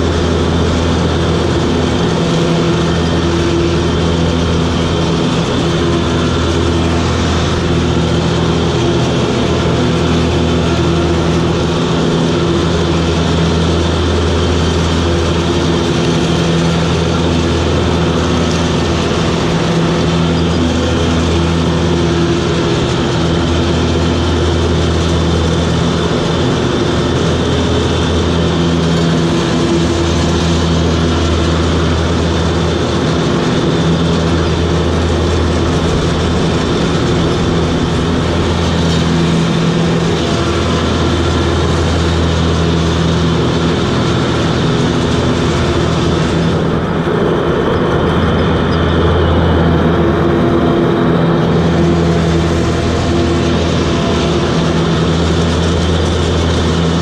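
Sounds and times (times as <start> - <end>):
mower diesel engine running: 0.0 - 57.0.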